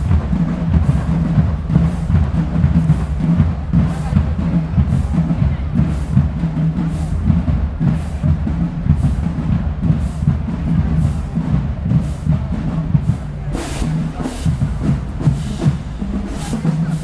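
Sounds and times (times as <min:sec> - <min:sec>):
bass drums pounding: 0:00.0 - 0:17.0
cymbal crash: 0:00.0 - 0:17.0.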